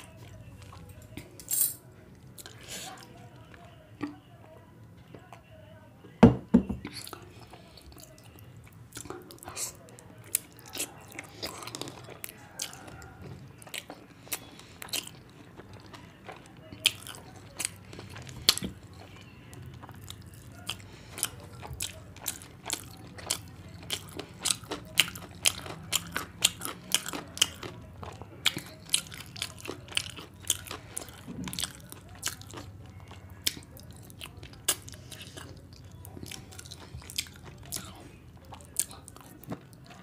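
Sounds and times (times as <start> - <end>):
person chewing food: 0.0 - 5.4, 6.8 - 40.0.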